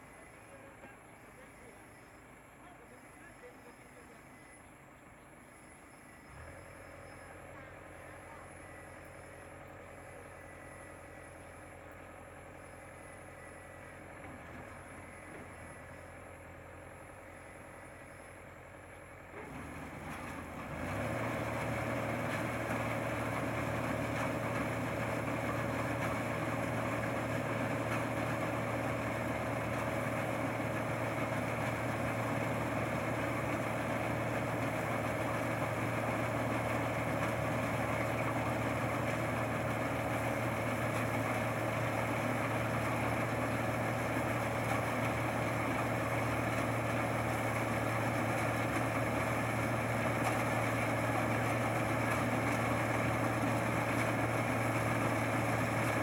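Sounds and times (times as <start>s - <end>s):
harvester engine running: 4.3s - 56.0s.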